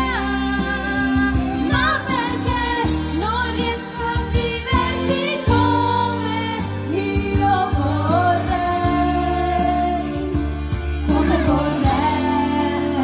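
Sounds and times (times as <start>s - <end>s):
instrumental accompaniment: 0.0s - 13.0s
people singing into microphones: 0.0s - 13.0s.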